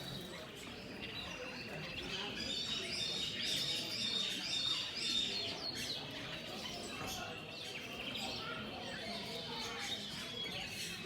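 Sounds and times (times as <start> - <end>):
caged birds chirping: 0.0 - 11.0
murmur of voices: 0.0 - 11.0.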